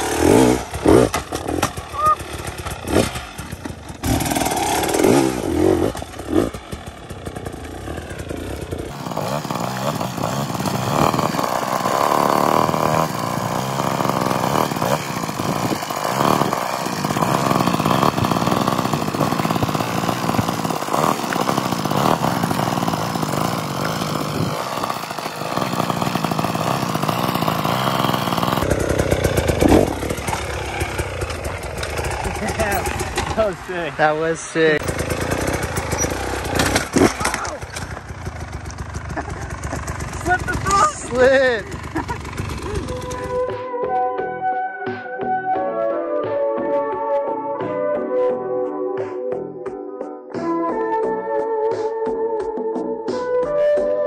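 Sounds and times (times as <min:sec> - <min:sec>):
dirt bike engine revving: 0:00.0 - 0:43.6.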